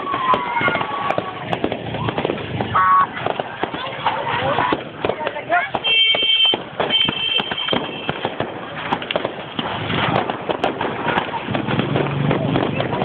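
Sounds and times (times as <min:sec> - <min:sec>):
firecrackers crackling and popping: 0:00.0 - 0:13.0.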